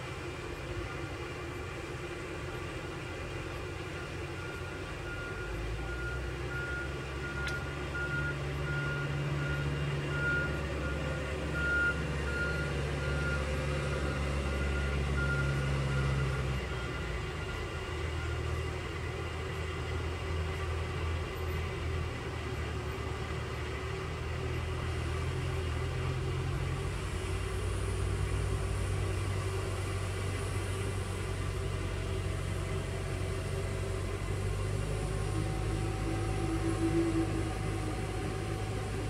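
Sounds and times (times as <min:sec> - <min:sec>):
diesel machinery rumbling: 0:00.0 - 0:39.0.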